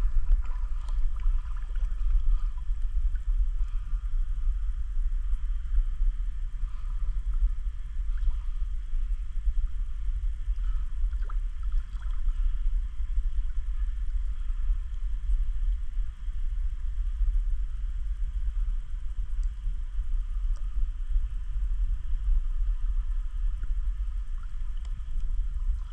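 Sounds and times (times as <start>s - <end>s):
faint steady hiss: 0.0s - 25.9s
wind rumbling on microphone: 0.0s - 25.9s.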